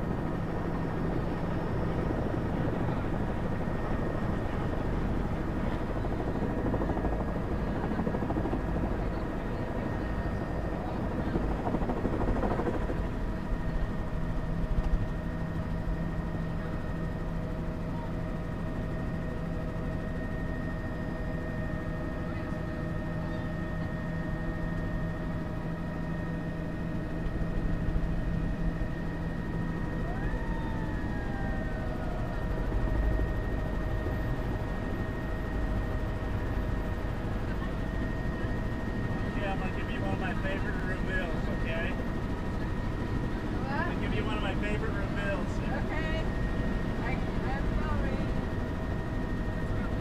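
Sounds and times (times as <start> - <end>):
helicopter flying: 0.0 - 50.0.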